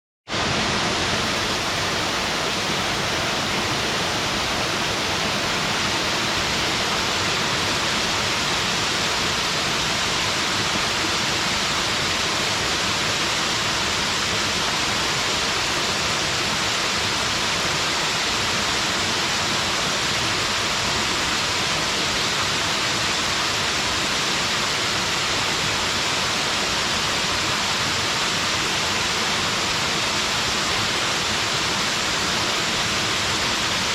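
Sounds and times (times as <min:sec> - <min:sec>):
waterfall pouring into stream: 0:00.4 - 0:33.9.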